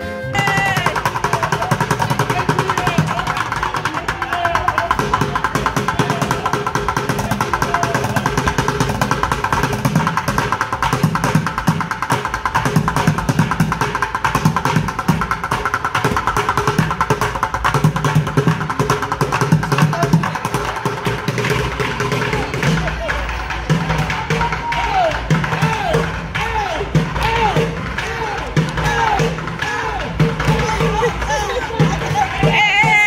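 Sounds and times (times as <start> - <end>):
drumming on plastic buckets: 0.4 - 33.0.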